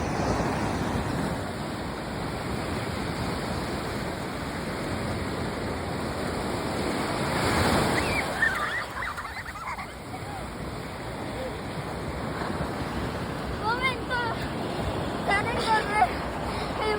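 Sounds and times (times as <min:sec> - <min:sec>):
sea waves breaking on shore: 0:00.0 - 0:16.9.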